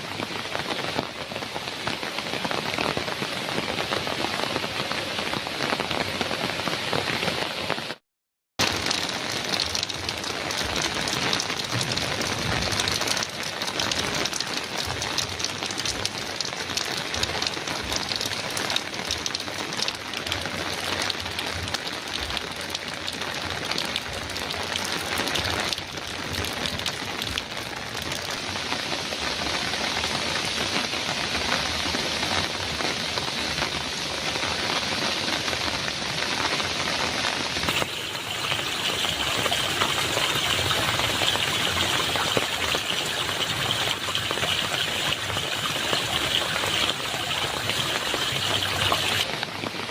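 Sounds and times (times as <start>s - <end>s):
heavy rain on a metal roof: 0.0s - 8.0s, 8.6s - 49.9s.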